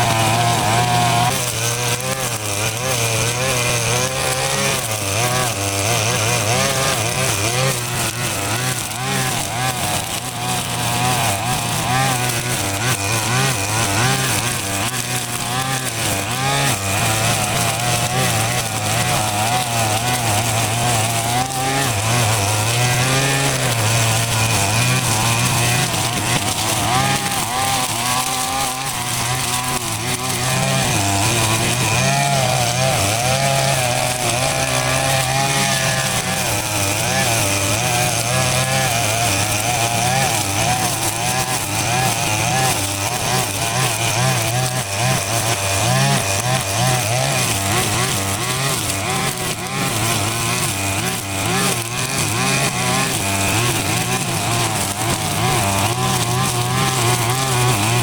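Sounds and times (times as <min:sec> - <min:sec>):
small engine humming: 0:00.0 - 0:58.0.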